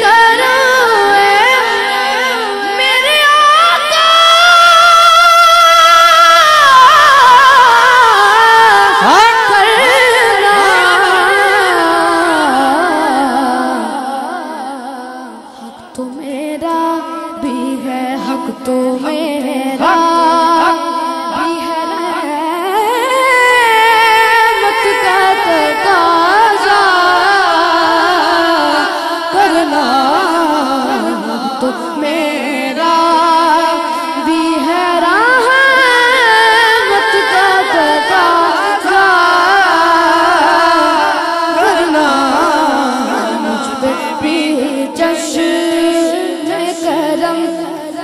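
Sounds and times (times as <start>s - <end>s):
boy singing through a microphone: 0.0s - 48.0s.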